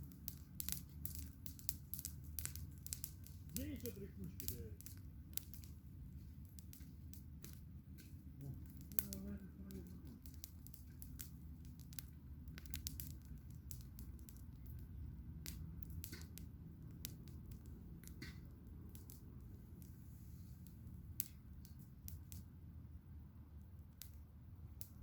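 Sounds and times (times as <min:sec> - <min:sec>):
campfire crackling: 0:00.0 - 0:25.0
low steady rumble: 0:00.0 - 0:25.0.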